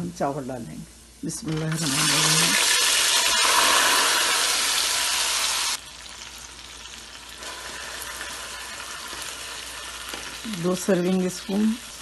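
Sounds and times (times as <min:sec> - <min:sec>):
rice sizzling in hot oil: 0:01.5 - 0:12.0.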